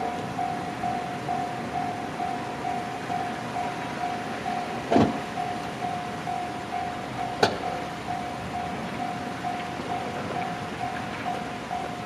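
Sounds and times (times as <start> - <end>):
level-crossing alarm dinging: 0.0 - 12.0.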